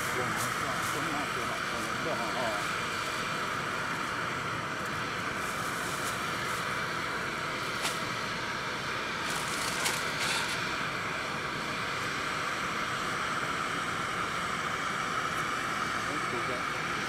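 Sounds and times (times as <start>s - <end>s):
gas stove hissing: 0.0s - 17.0s.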